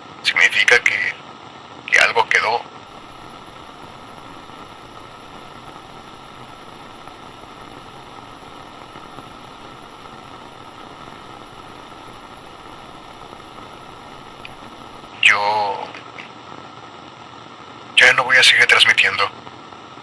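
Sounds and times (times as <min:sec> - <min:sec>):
walkie-talkie radio static hiss: 0:00.0 - 0:16.5, 0:18.0 - 0:19.5.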